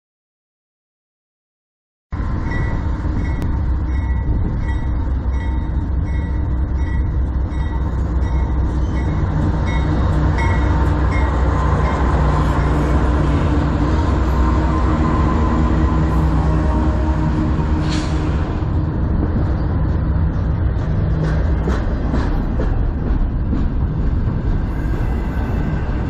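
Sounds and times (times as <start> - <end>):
locomotive engine drone: 2.2 - 26.0.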